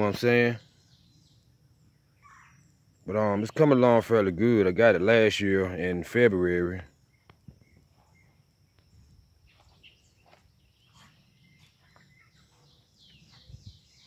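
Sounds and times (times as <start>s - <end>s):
bird chirps: 0.0s - 5.0s, 6.5s - 14.0s
faint steady high whine: 0.0s - 14.0s.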